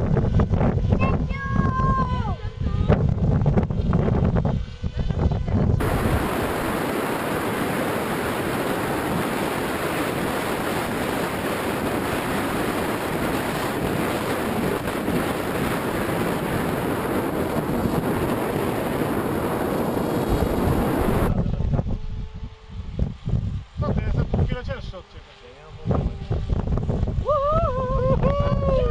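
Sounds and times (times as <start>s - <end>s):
gusty wind buffeting microphone: 0.0s - 28.9s
wind rushing on microphone: 0.0s - 28.9s.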